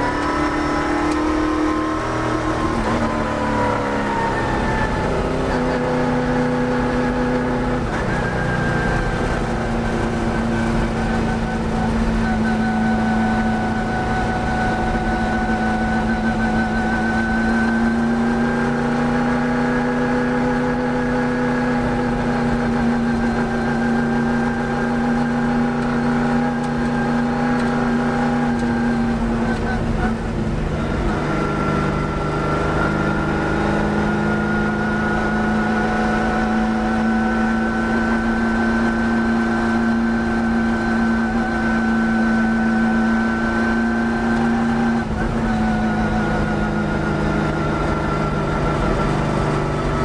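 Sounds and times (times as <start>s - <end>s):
race car engine under load: 0.0s - 50.0s.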